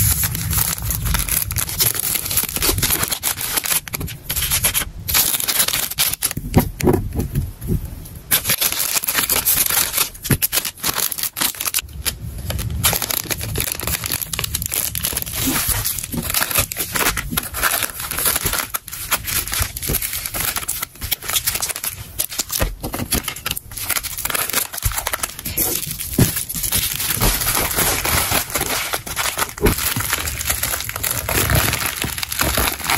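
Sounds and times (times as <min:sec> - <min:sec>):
packing material tearing: 0:00.0 - 0:06.4, 0:08.3 - 0:32.9
plastic and paper crinkling: 0:00.0 - 0:07.3, 0:08.3 - 0:32.9.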